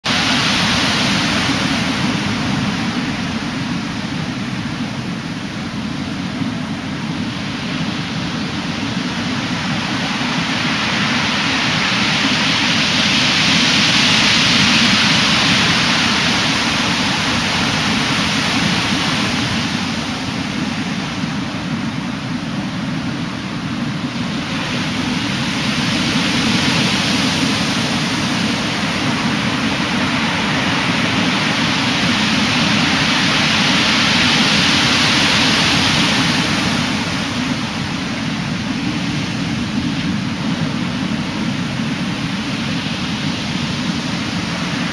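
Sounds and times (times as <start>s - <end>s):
heavy surf breaking on shore: 0.0s - 44.9s.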